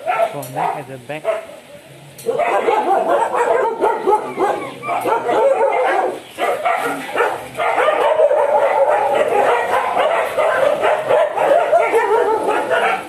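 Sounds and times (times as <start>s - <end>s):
dogs yipping and whining: 2.2s - 13.0s.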